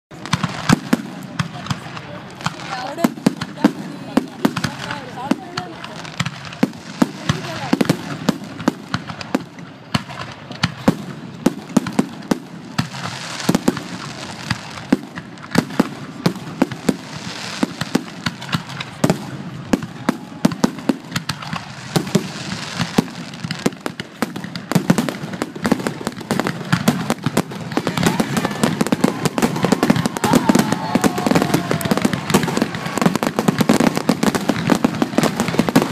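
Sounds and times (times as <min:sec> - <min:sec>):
fireworks bangs and pops: 0:00.1 - 0:35.9.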